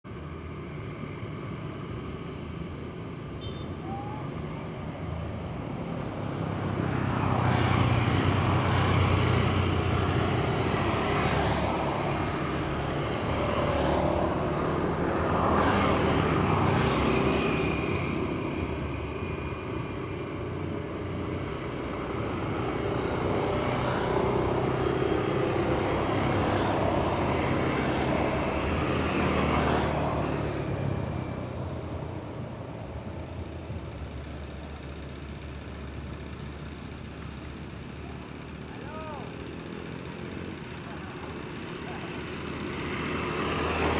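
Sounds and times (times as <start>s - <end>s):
small boat motor droning: 0.1s - 43.9s.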